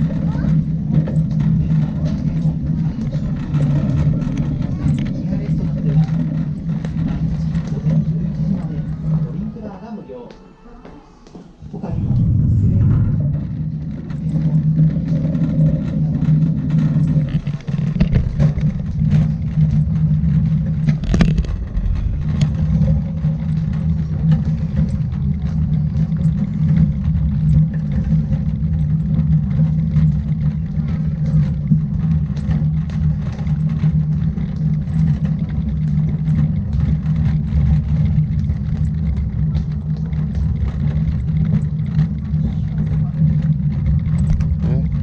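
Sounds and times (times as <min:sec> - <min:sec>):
faint clicks and rattles: 0:00.0 - 0:09.8, 0:11.7 - 0:45.0
road vehicle rumble: 0:00.0 - 0:10.3, 0:11.1 - 0:45.0.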